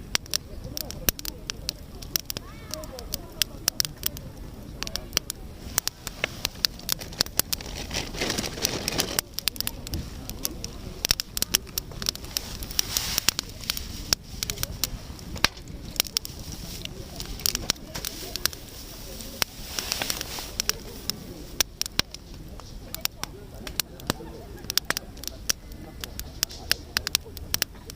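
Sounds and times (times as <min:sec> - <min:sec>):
campfire crackling and popping: 0:00.0 - 0:27.9.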